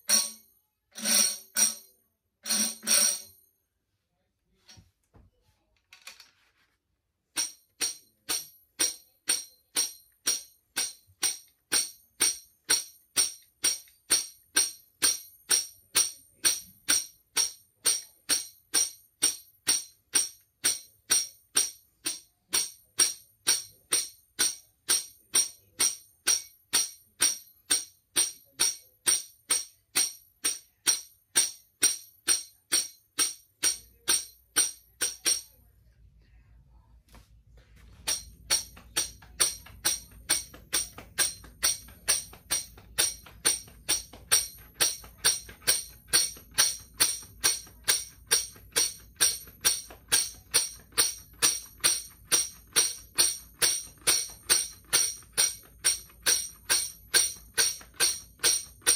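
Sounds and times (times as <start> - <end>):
tambourine struck by hand: 0.0 - 0.4, 1.0 - 3.3, 7.3 - 35.6, 38.0 - 58.9.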